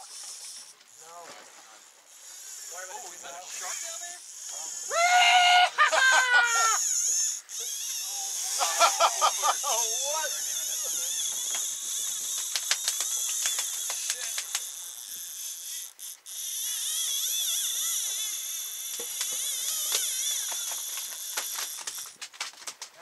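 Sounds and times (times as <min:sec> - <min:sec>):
fishing reel drag clicking whine: 0:00.0 - 0:22.2.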